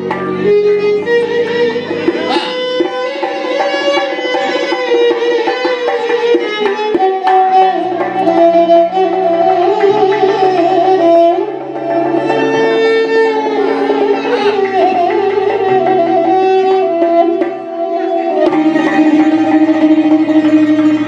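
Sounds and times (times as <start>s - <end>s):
electric violin melody: 0.0s - 21.0s.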